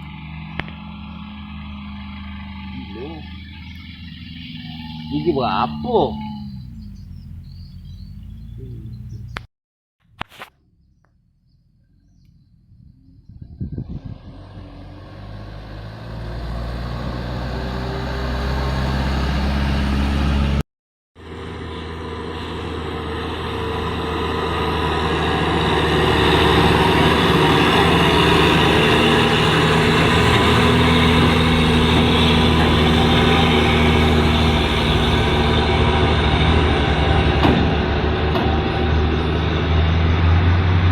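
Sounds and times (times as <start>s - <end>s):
vehicle engine under load: 0.0s - 9.5s, 10.1s - 20.6s, 21.2s - 40.9s.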